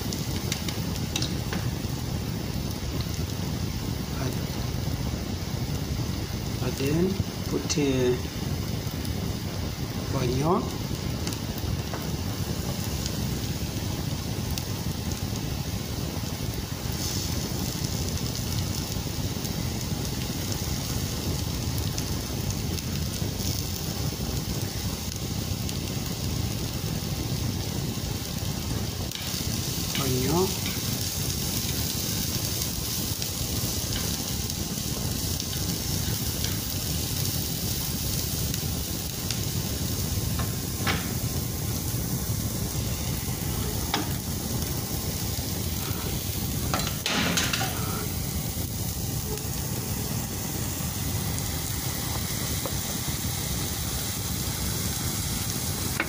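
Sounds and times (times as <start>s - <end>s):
garlic and onion sizzling: 0.0s - 56.0s.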